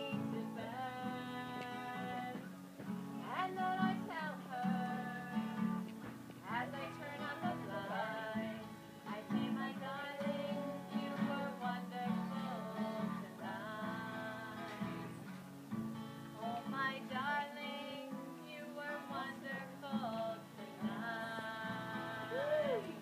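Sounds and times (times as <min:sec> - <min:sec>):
woman singing: 0:00.0 - 0:02.5, 0:03.1 - 0:15.3, 0:16.4 - 0:23.0
acoustic guitar chords: 0:00.0 - 0:23.0.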